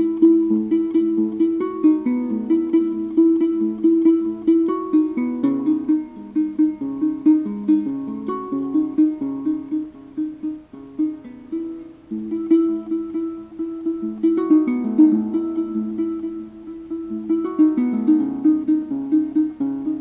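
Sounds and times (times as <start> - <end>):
plucked harp-lute melody: 0.0 - 20.0.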